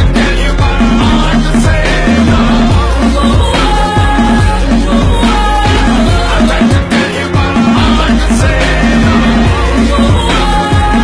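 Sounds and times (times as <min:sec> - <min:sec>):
music with deep bass and kick drum: 0:00.0 - 0:11.0.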